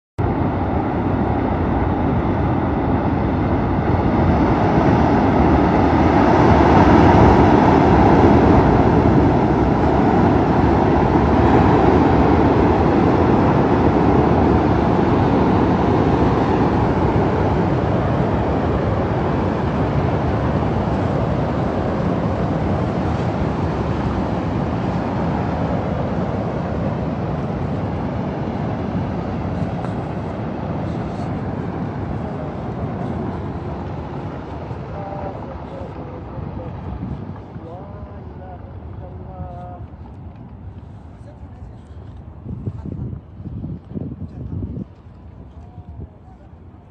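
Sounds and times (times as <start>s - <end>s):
floodwater rushing with deep rumble: 0.2s - 46.9s.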